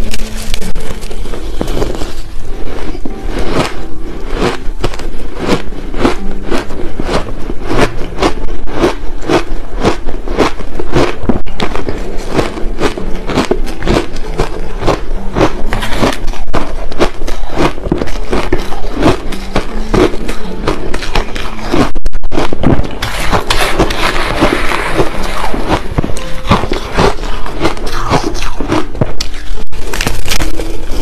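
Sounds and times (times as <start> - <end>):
chewing crushed ice: 3.4 - 31.0.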